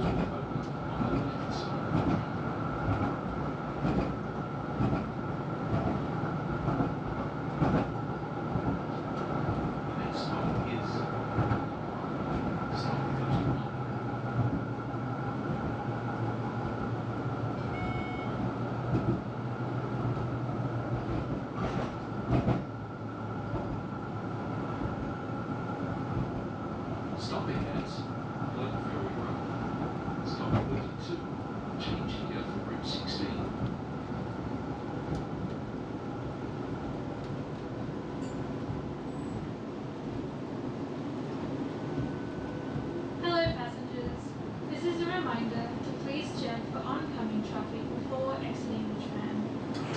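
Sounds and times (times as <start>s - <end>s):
tram rumbling and humming: 0.0s - 49.9s.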